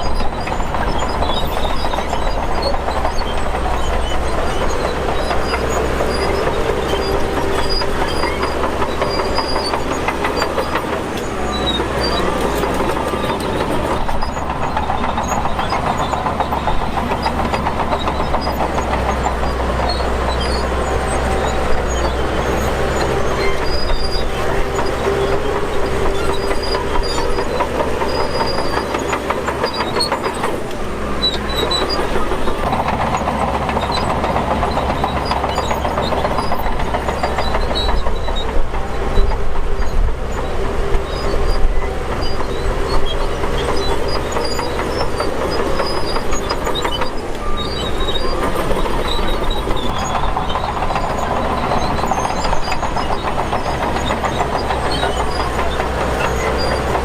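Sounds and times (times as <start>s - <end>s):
diesel engine under load: 0.0s - 57.0s
steel tracks clattering: 0.0s - 57.0s.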